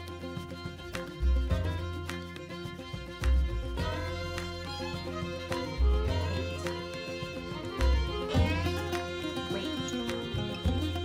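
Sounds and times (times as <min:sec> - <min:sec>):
instrumental music with bass beat: 0:00.0 - 0:11.0.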